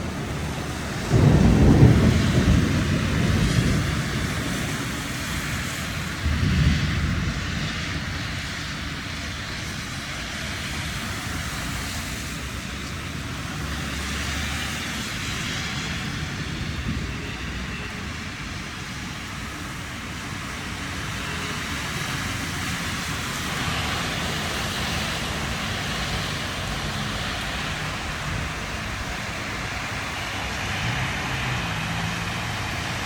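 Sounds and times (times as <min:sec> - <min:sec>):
thunder rumbling: 0:00.0 - 0:09.8, 0:14.8 - 0:20.2, 0:20.9 - 0:33.0
heavy rain falling: 0:00.0 - 0:33.0.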